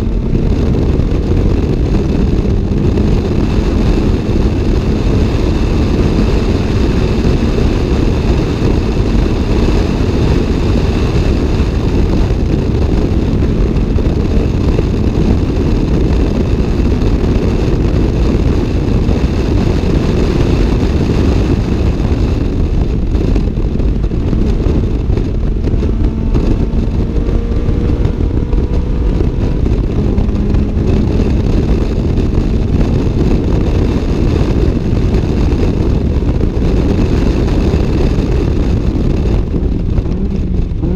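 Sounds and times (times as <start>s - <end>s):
car engine running hard: 0.0s - 40.9s
wind and road noise: 0.0s - 40.9s.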